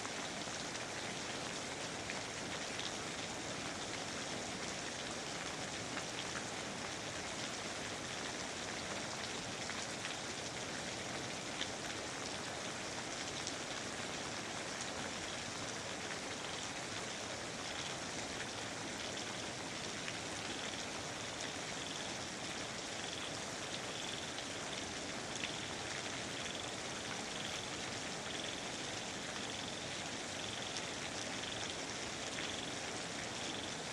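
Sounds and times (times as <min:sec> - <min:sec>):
rain falling on foliage: 0:00.0 - 0:33.9.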